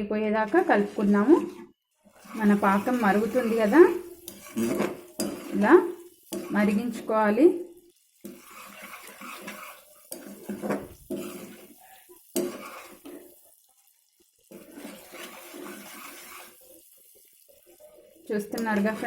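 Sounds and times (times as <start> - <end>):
syrup boiling and bubbling: 0.5 - 19.0.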